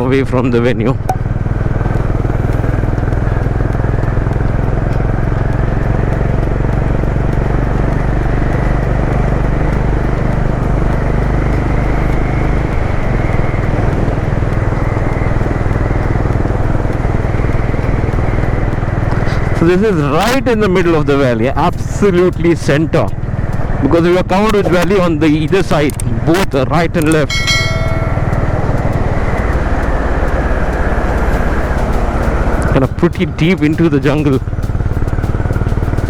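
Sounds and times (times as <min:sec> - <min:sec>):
motorcycle engine running: 0:00.0 - 0:36.0
road and wind noise: 0:00.0 - 0:36.0.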